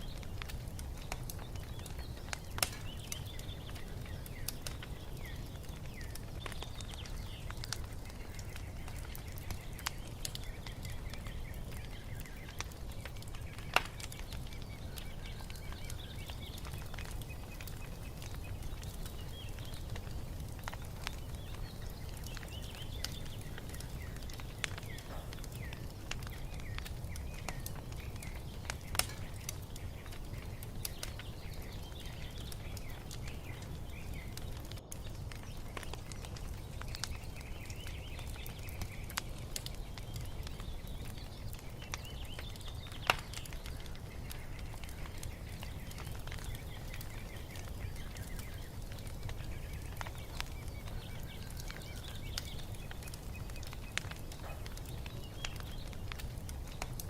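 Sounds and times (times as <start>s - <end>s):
fire popping: 0.0s - 57.0s
songbirds chirping: 0.0s - 57.0s
wood fire crackling: 0.0s - 57.0s.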